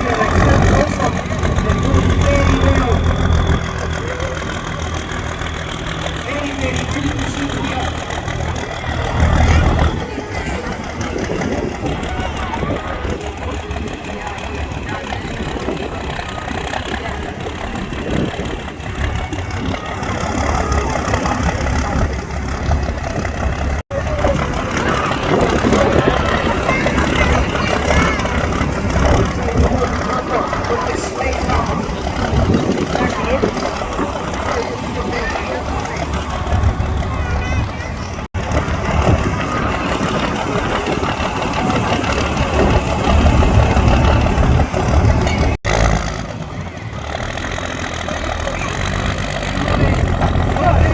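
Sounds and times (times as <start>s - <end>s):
tractor engine idling: 0.0s - 50.9s.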